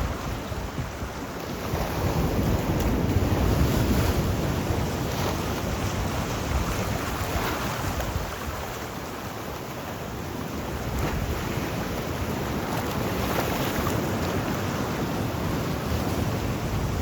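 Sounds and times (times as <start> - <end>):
sea surf rushing: 0.0 - 17.0.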